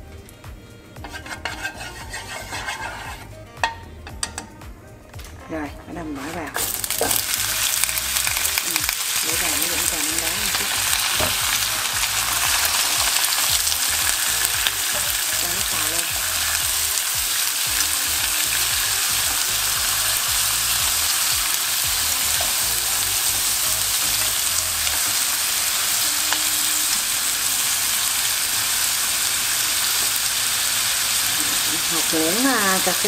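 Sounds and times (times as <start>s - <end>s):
meat sizzling in a pan: 1.0s - 3.8s, 6.6s - 33.0s.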